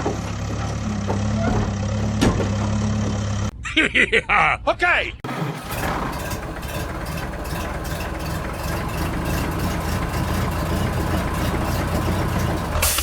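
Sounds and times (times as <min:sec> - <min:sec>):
tractor engine running: 0:00.0 - 0:03.5, 0:05.2 - 0:13.0.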